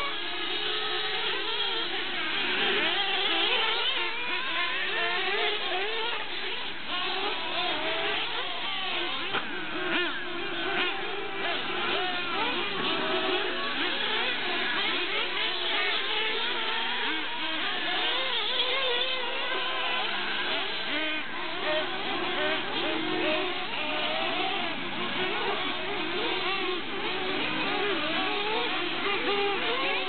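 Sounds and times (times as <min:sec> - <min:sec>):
rc car motors whining: 0:00.0 - 0:30.0.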